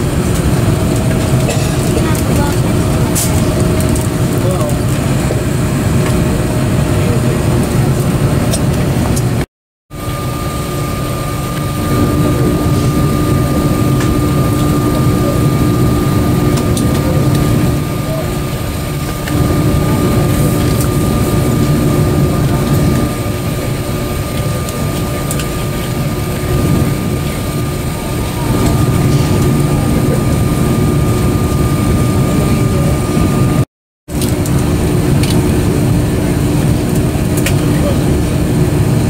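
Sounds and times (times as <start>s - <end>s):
airliner cabin hum: 0.0s - 39.0s.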